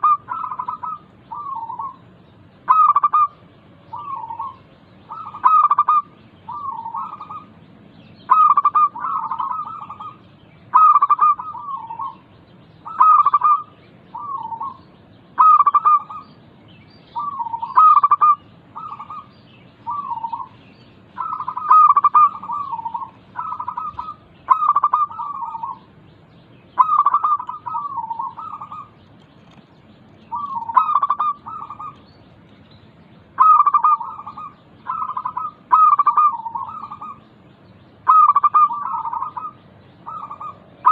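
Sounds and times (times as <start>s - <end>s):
dove cooing: 0.0s - 2.0s, 2.7s - 7.6s, 8.3s - 14.8s, 15.4s - 16.3s, 17.2s - 26.0s, 26.8s - 29.6s, 30.2s - 32.1s, 33.4s - 37.2s, 38.0s - 40.9s.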